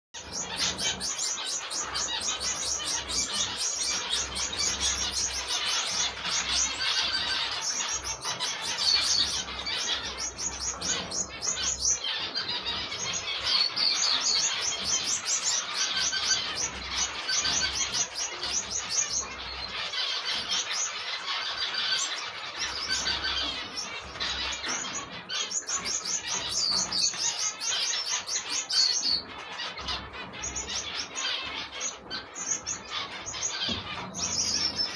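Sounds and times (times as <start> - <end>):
finch chicks begging chirps: 0.2 - 34.9.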